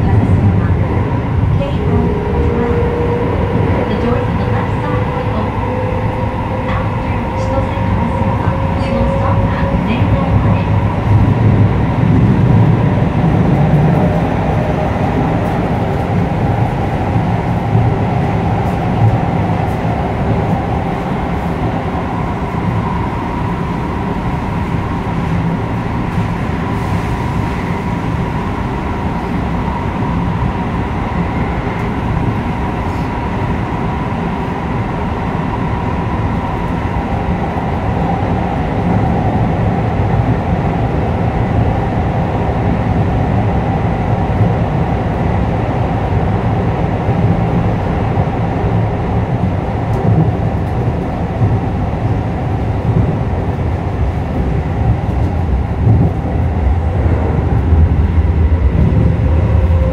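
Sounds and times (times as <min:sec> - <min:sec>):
wheels rumbling on track: 0:00.0 - 0:59.9.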